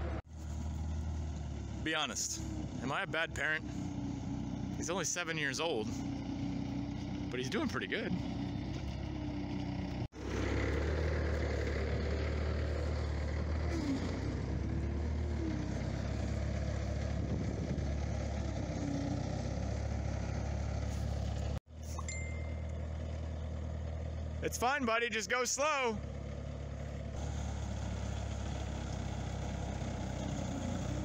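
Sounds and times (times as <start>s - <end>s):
loader engine running: 0.0s - 31.0s.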